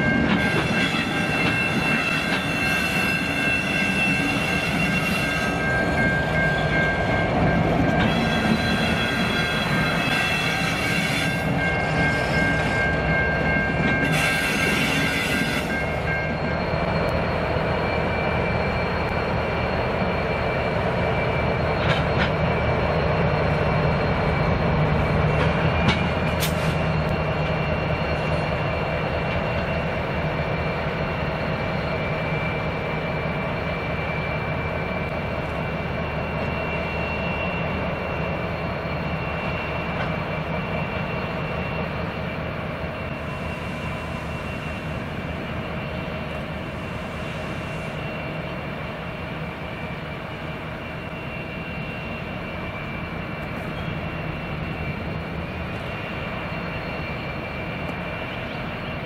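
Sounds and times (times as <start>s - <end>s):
diesel locomotives running: 0.0s - 59.0s
train wheel squeal: 0.0s - 59.0s.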